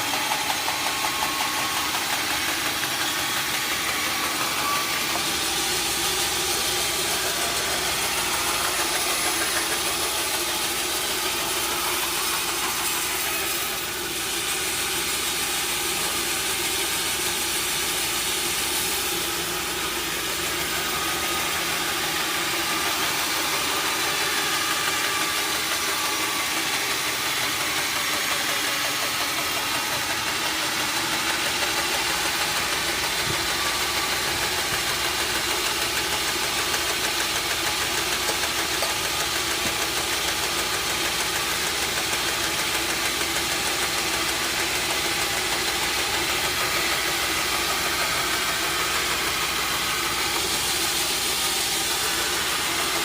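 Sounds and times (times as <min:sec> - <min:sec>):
sawmill machinery humming: 0:00.0 - 0:53.0.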